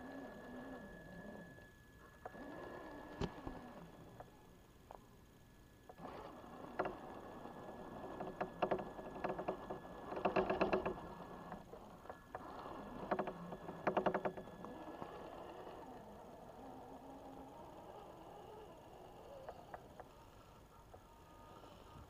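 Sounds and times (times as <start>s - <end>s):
faint steady high tone: 0.0s - 9.1s, 10.8s - 22.0s.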